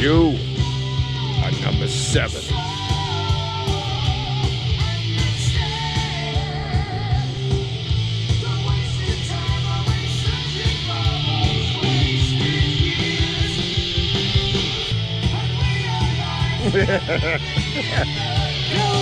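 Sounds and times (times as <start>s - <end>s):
person singing: 0.0s - 7.6s, 8.4s - 14.2s, 15.2s - 19.0s
bass: 0.0s - 19.0s
distorted electric guitar: 0.0s - 19.0s
drums steady beat: 0.0s - 19.0s.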